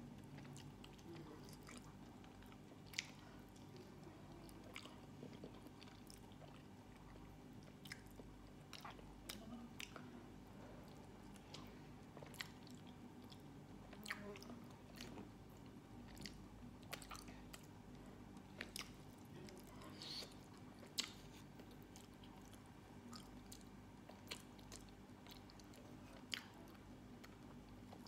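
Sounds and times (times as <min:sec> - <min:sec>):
person chewing: 0:00.1 - 0:28.0.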